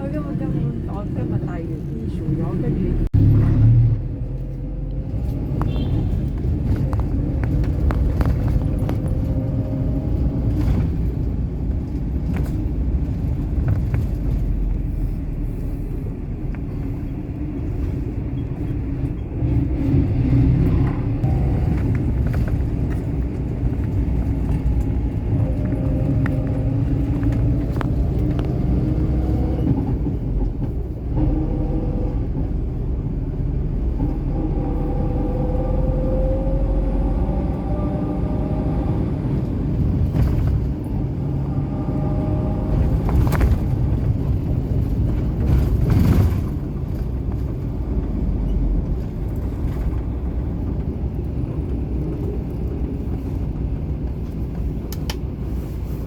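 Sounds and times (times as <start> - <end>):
car engine inside moving car: 0.0 - 56.0.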